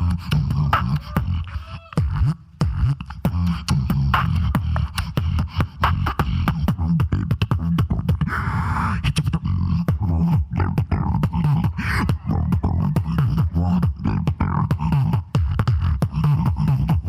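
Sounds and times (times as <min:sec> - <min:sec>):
person beatboxing: 0:00.0 - 0:17.0.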